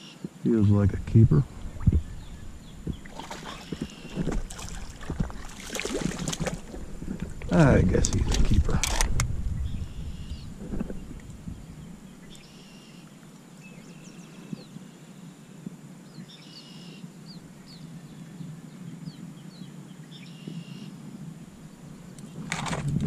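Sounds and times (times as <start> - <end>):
songbirds singing: 0.0 - 22.6.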